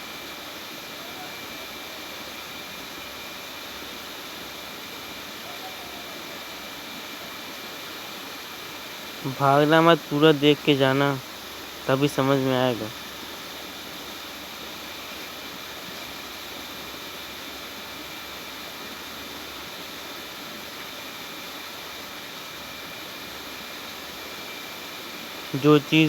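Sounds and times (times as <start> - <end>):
steady hiss with high whine: 0.0 - 26.0.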